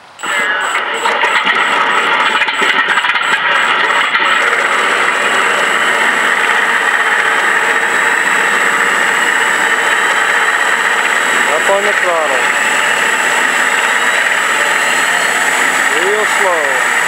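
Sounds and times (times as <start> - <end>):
thin high whine: 0.0 - 17.0
simulated radial engine idling: 0.1 - 17.0.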